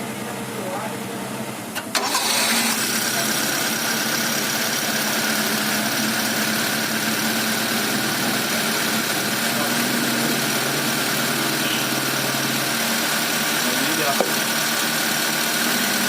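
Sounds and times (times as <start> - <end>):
car engine starting and idling: 0.0 - 16.0.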